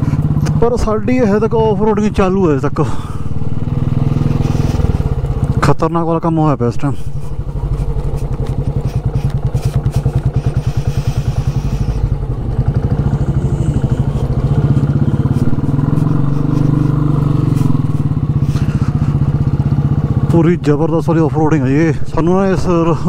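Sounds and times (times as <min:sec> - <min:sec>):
motorcycle engine thumping: 0:00.0 - 0:05.9, 0:07.2 - 0:20.5.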